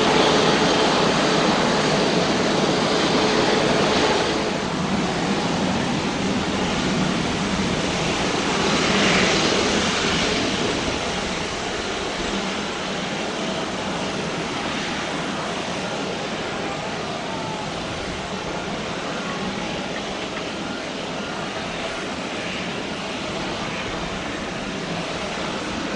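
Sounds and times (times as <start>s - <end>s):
jet engine noise: 0.0s - 25.9s.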